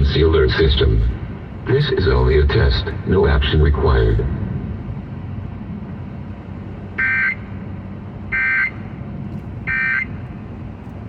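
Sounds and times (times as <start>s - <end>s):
car rumble: 0.0s - 11.0s.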